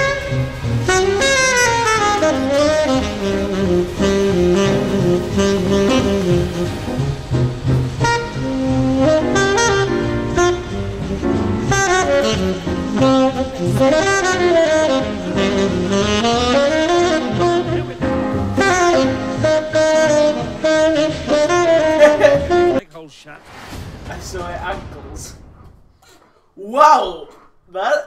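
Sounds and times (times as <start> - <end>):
jazzy saxophone and brass music: 0.0 - 22.9.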